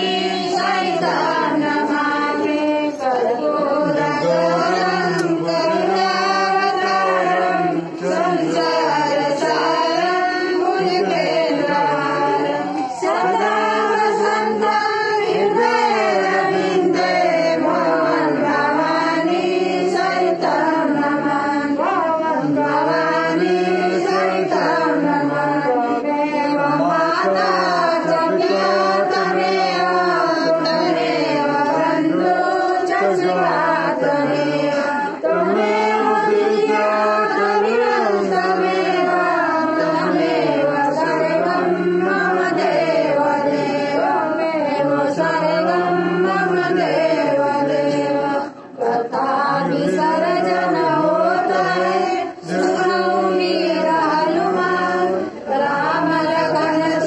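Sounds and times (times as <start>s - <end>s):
women singing a chant: 0.0s - 57.0s.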